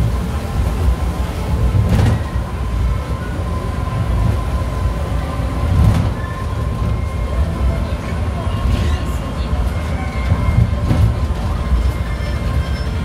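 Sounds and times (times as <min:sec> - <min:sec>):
monorail car rumble: 0:00.0 - 0:13.0
thin constant whine: 0:00.0 - 0:13.0.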